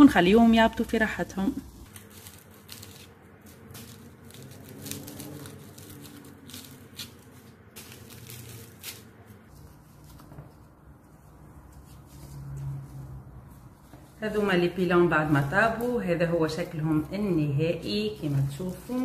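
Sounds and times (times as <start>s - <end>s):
aluminium foil crinkling: 0.7s - 19.0s.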